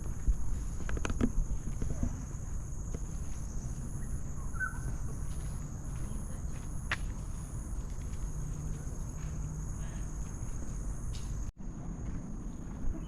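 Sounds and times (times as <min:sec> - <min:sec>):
footsteps on trail: 0:00.0 - 0:13.0
insects droning: 0:00.0 - 0:13.0.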